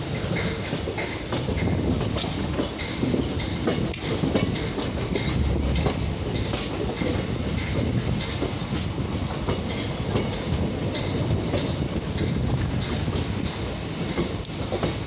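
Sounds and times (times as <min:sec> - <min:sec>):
train running low rumble: 0:00.0 - 0:15.0
wheels clicking over rail joints: 0:00.0 - 0:15.0.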